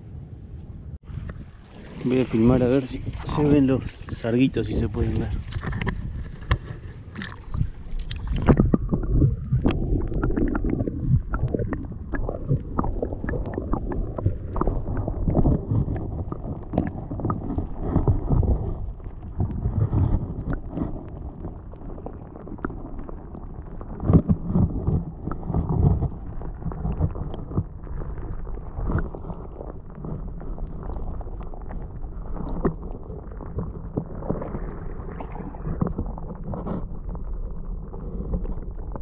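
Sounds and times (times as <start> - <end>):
muffled underwater rumble: 0.0 - 39.0
underwater knocks and gurgles: 1.0 - 39.0
water sloshing: 1.2 - 39.0.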